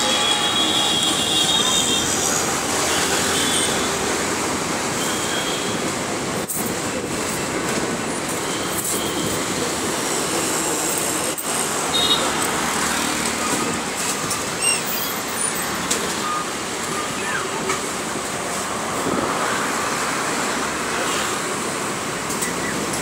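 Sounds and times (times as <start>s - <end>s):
bus engine and tyre noise: 0.0s - 23.0s
street traffic: 0.0s - 23.0s.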